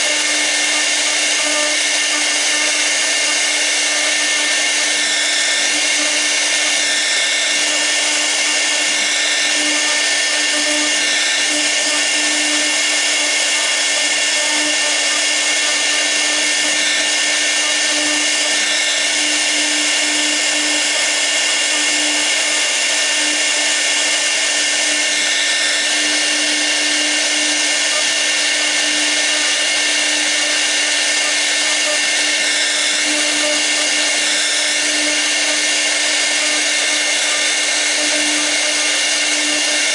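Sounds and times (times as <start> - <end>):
bit cutting wood: 0.0 - 39.9
router spindle whine: 0.0 - 39.9.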